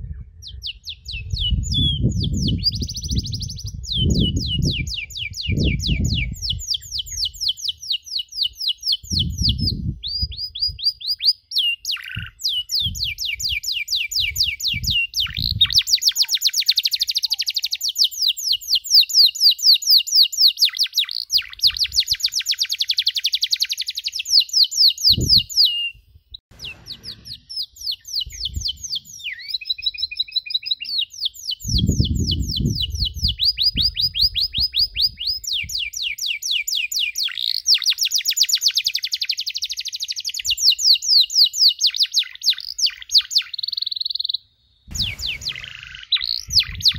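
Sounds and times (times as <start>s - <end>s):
canary singing: 0.4s - 46.9s.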